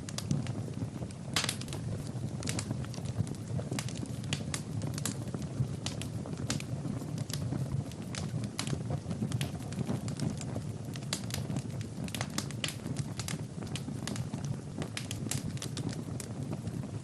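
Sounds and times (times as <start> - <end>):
fire crackling and popping: 0.0 - 17.0
low rush of flame: 0.0 - 17.0.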